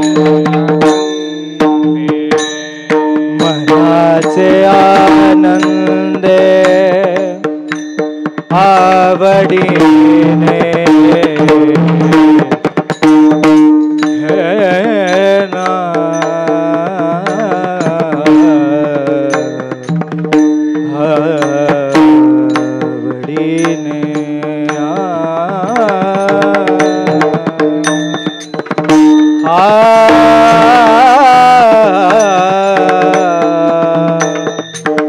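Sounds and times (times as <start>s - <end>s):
drum: 0.0s - 35.0s
hand cymbals: 0.0s - 35.0s
man singing devotional song: 0.0s - 35.0s.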